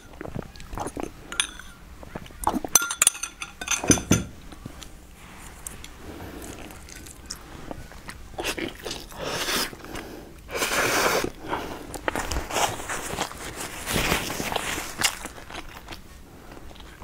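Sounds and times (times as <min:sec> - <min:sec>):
chewing soft food: 0:00.0 - 0:02.8, 0:04.5 - 0:17.0.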